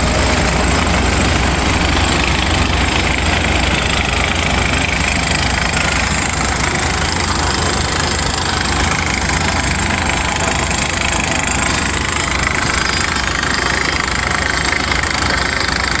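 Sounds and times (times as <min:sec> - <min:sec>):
drilling rig engine: 0:00.0 - 0:16.0.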